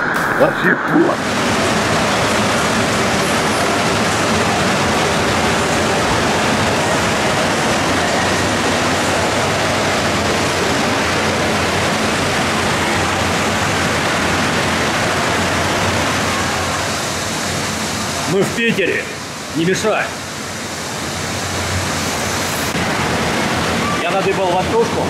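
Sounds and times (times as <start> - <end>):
water rushing down slides: 0.0 - 25.0.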